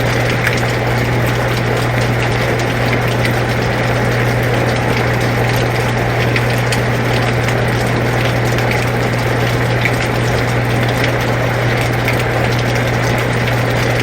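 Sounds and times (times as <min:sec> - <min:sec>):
air conditioner humming: 0:00.0 - 0:14.0
steady rain: 0:00.0 - 0:14.0.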